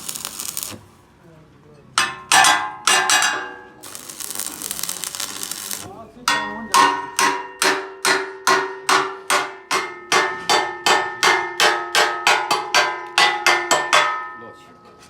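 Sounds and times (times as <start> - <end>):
hammer striking steel: 2.0 - 14.6.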